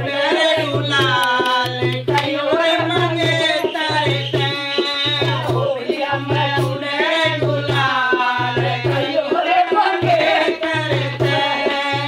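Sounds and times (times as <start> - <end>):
hand drum beating rhythm: 0.0 - 12.0
women singing folk song: 0.0 - 12.0.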